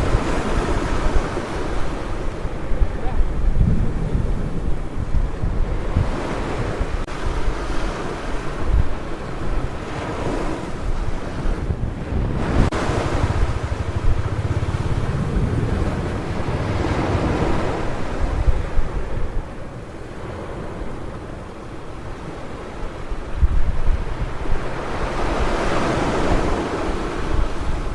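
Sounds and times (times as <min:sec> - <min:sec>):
ocean surf washing onto beach: 0:00.0 - 0:27.9
wind buffeting microphone: 0:00.0 - 0:27.9.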